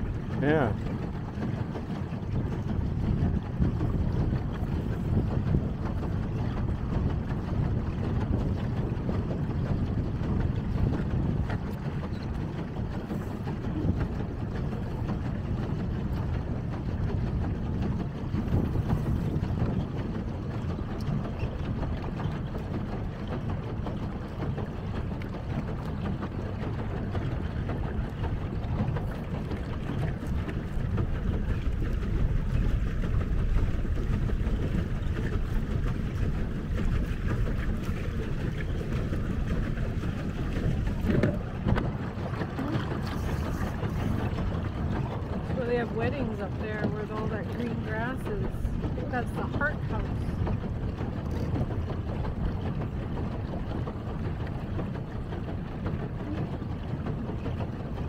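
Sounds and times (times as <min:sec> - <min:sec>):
water churning and lapping: 0:00.0 - 0:58.0
wind buffeting microphone: 0:00.0 - 0:58.0.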